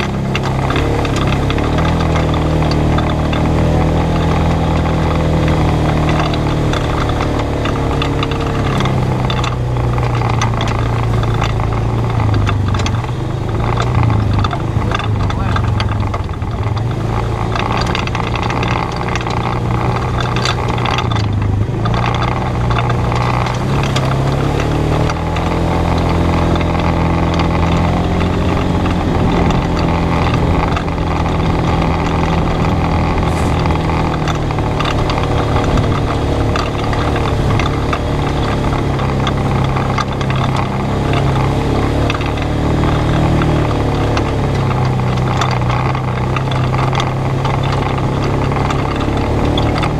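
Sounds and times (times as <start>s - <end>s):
single-cylinder engine running: 0.0s - 49.9s.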